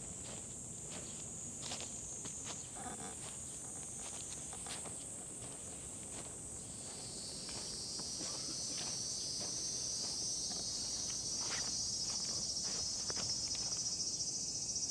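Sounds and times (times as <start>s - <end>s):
footsteps on dry ground: 0.0s - 14.5s
cicadas buzzing: 0.0s - 14.9s.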